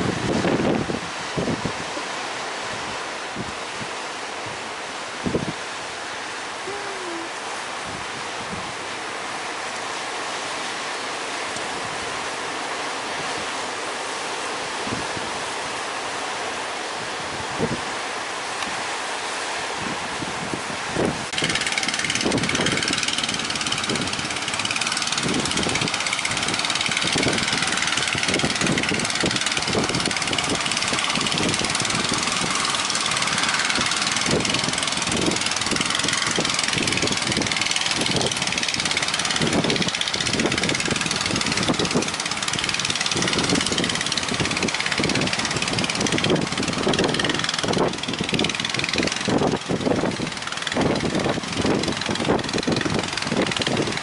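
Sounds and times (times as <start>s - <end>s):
strong wind blowing: 0.0s - 5.8s, 14.7s - 15.9s, 16.9s - 19.0s, 19.7s - 54.0s
wind gusts buffeting microphone: 0.0s - 54.0s.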